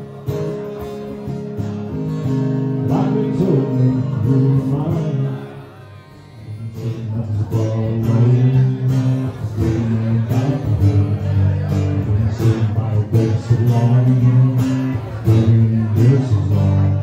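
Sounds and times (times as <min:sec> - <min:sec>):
strummed acoustic guitar: 0:00.0 - 0:17.0
man singing: 0:02.6 - 0:17.0.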